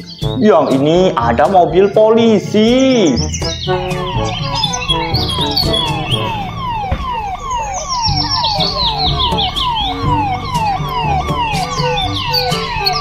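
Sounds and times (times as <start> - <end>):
police sirens wailing: 1.6 - 13.0.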